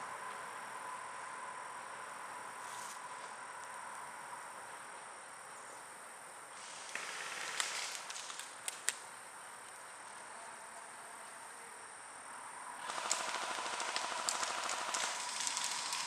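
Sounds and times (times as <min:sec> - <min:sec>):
faint outdoor hiss: 0:00.0 - 0:16.0
insect chorus trilling: 0:00.0 - 0:16.0.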